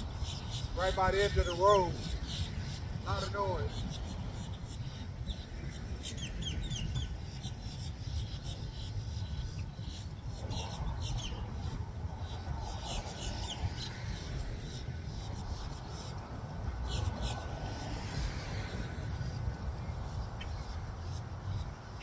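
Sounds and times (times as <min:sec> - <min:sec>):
low rumble of road noise: 0:00.0 - 0:22.0
small birds chirping: 0:00.0 - 0:22.0.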